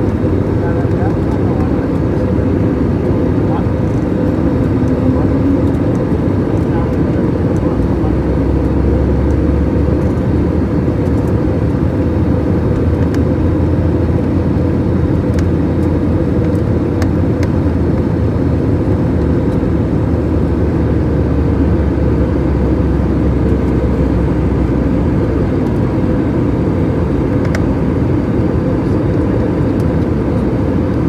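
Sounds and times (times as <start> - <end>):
aeroplane cabin drone: 0.0 - 31.0.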